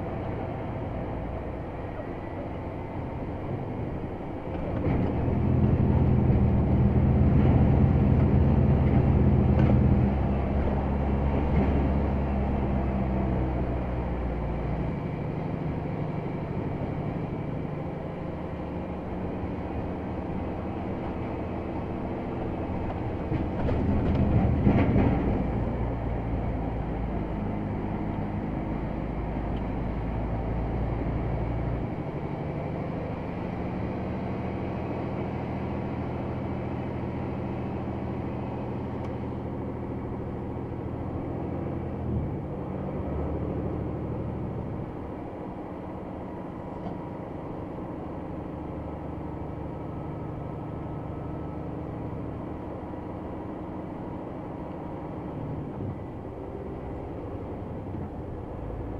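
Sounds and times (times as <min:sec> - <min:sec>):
truck diesel engine under load: 0:00.0 - 0:58.9.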